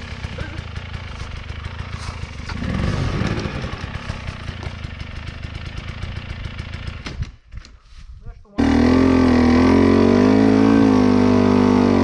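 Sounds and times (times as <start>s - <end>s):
two-stroke engine running: 0.0s - 7.2s, 8.6s - 12.0s.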